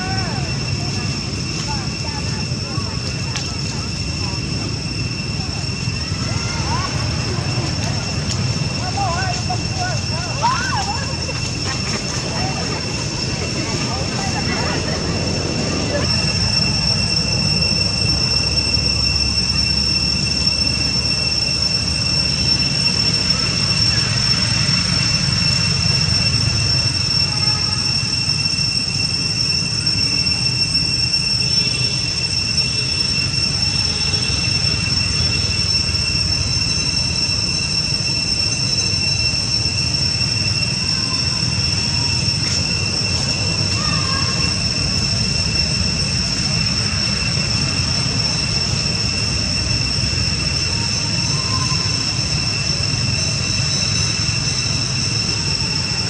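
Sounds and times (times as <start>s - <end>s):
high-pitched whine: 0.0s - 56.0s.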